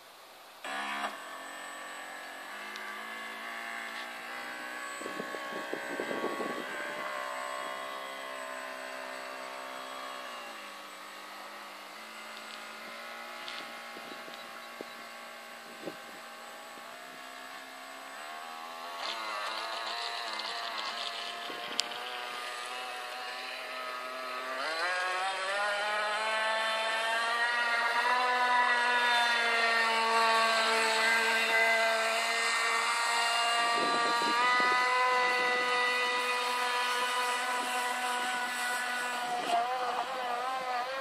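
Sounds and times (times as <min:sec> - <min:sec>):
rc boat motor whining: 0:00.0 - 0:41.0.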